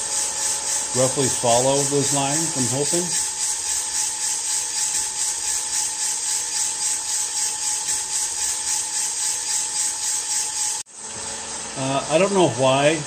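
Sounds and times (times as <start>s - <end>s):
coffee beans tumbling in drum: 0.0s - 10.8s
thin machine whine: 0.0s - 13.0s.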